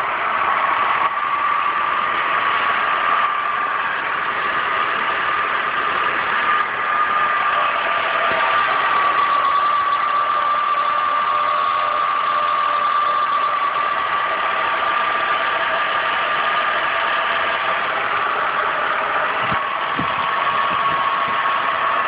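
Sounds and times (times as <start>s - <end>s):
car engine idling with whine: 0.0s - 22.0s.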